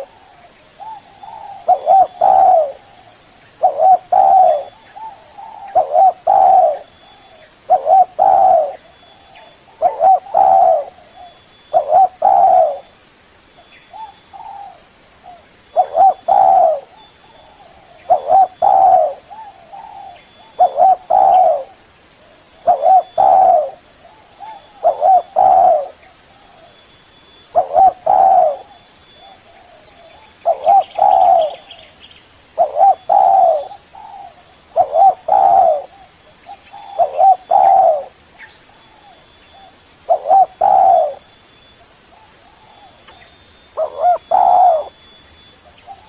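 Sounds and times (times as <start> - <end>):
dove cooing: 0.0 - 12.9, 13.9 - 26.8, 27.5 - 41.3, 42.1 - 46.0.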